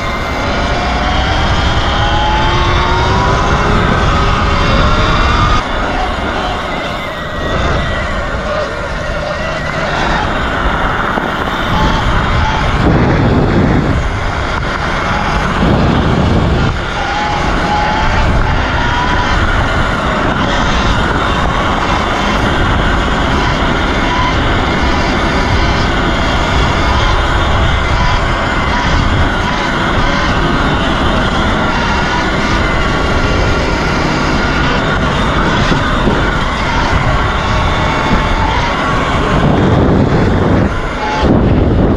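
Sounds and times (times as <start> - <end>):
faint electric motor whine: 0.0 - 41.9
wind and road noise: 0.0 - 41.9.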